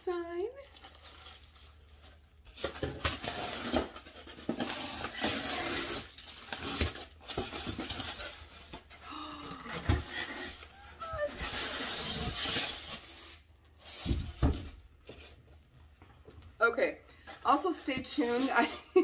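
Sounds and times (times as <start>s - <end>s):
cardboard box and styrofoam rustling: 0.1s - 9.0s, 9.6s - 15.4s, 17.5s - 19.0s.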